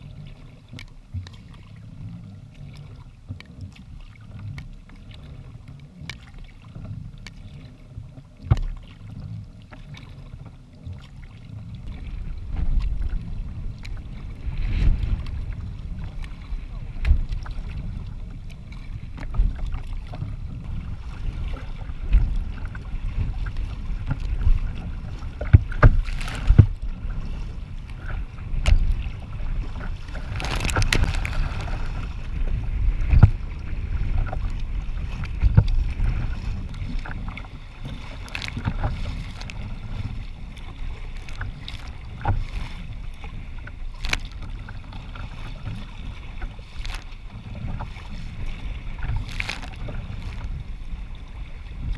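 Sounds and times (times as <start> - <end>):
water splashing against kayak hull: 0.0 - 51.9
wind rumble on microphone: 0.0 - 51.9.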